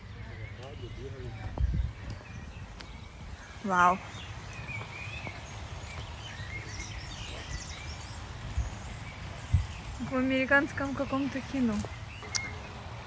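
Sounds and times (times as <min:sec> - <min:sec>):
birds chirping and warbling: 0:00.0 - 0:13.0.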